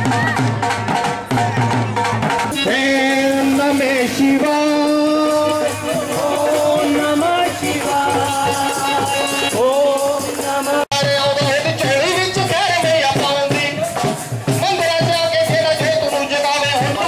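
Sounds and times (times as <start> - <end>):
shaken rattle percussion: 0.0 - 17.0.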